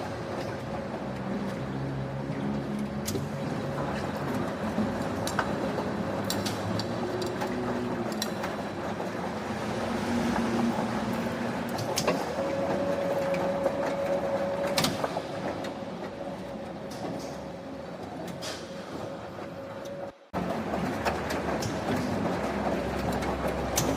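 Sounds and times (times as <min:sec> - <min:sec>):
heavy factory machinery running: 0:00.0 - 0:23.9.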